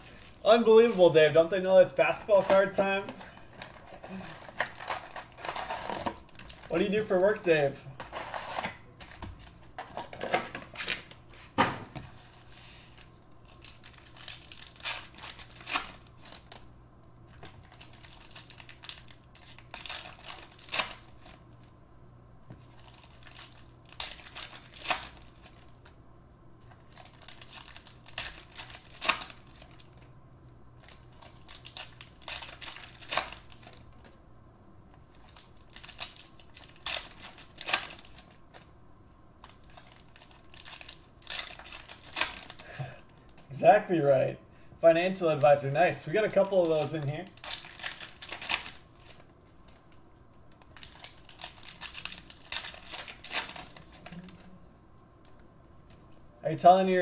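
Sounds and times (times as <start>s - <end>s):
foil wrappers crinkling: 0.0s - 1.2s, 2.0s - 11.2s, 12.2s - 16.7s, 17.3s - 21.5s, 22.6s - 26.0s, 26.6s - 30.1s, 30.8s - 34.2s, 35.1s - 38.7s, 39.4s - 43.5s, 45.4s - 54.5s.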